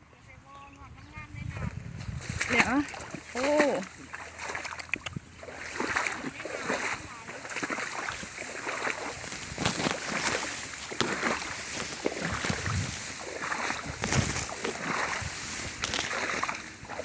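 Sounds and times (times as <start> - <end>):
water splashing and sloshing: 1.4 - 17.0.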